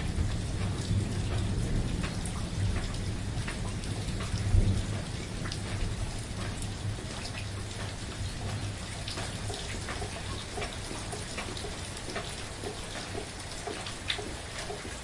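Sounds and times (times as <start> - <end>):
gentle rain: 0.0 - 15.0
raindrops ticking: 0.0 - 15.0.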